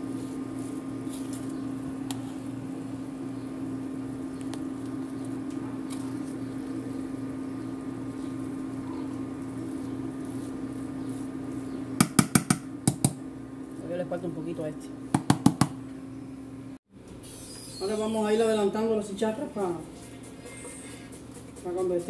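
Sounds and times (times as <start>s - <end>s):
induction cooktop humming: 0.0s - 22.0s.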